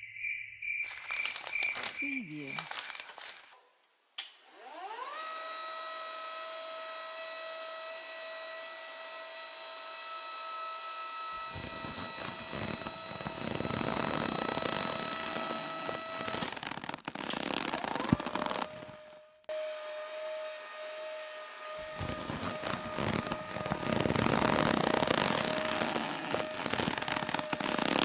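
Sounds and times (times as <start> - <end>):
small electric motor whining: 4.4 - 28.0.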